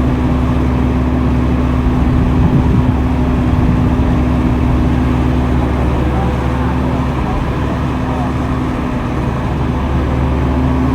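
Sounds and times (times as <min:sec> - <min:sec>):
diesel engine droning: 0:00.0 - 0:10.9.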